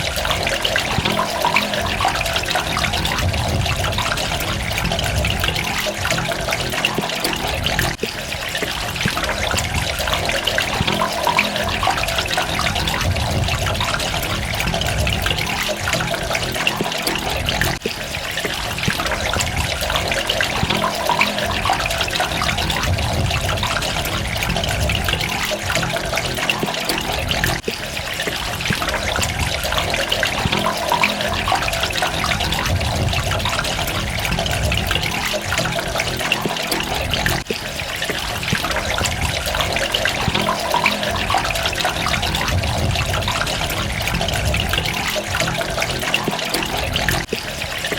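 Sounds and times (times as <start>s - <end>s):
water running and splashing: 0.0s - 47.9s.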